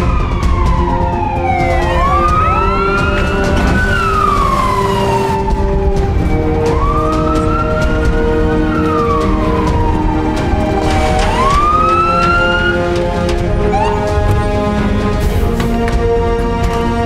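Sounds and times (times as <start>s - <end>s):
fire engine siren wailing: 0.0s - 15.0s.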